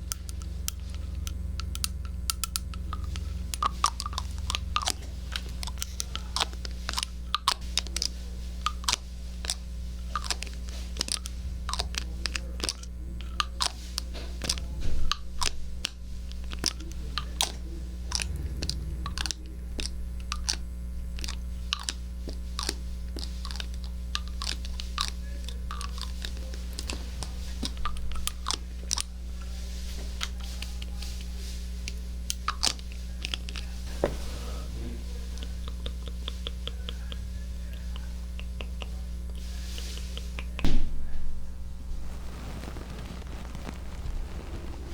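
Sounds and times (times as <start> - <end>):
crisp clicks and crackles: 0.0 - 44.9
steady low hum: 0.0 - 44.9.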